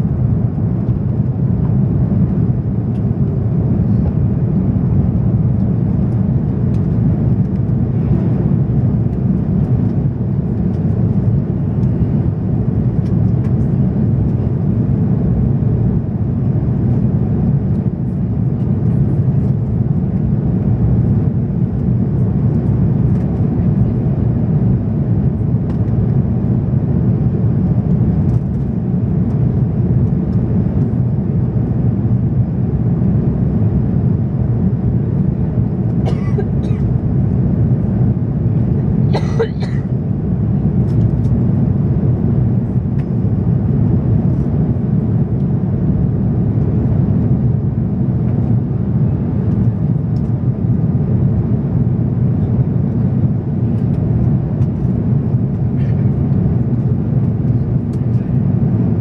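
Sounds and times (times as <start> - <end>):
airflow over fuselage: 0.0 - 59.0
jet engine rumble in cabin: 0.0 - 59.0.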